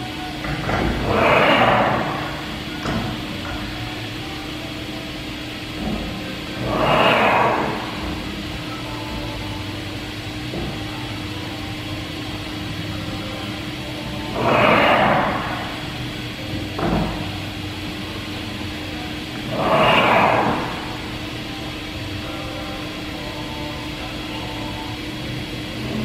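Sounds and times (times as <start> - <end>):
cnc router humming: 0.0 - 26.0.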